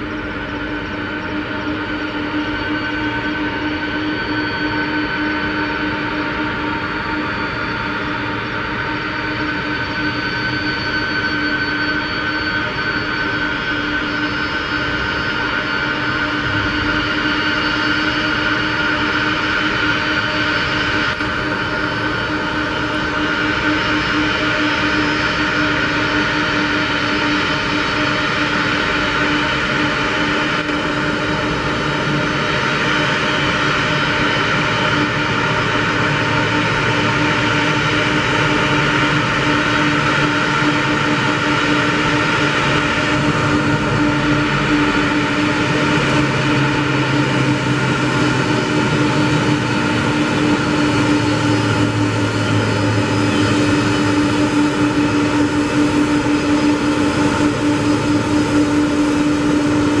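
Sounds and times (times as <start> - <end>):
jet engines running: 0.0 - 60.0.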